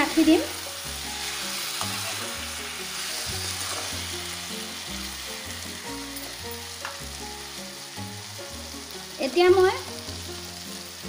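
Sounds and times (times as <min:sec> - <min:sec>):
background music: 0:00.0 - 0:11.0
fruit sizzling in a pan: 0:00.0 - 0:11.0.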